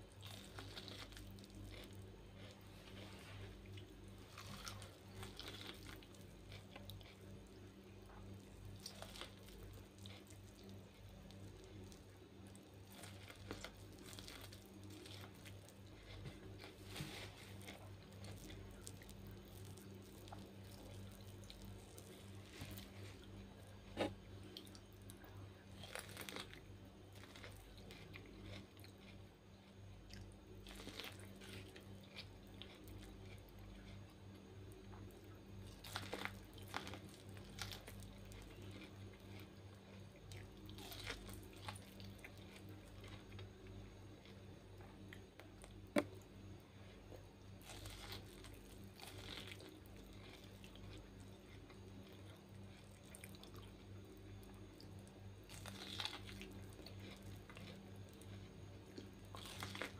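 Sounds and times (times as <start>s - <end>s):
chewing corn on the cob: 0.0s - 59.9s
steady low hum: 0.0s - 59.9s.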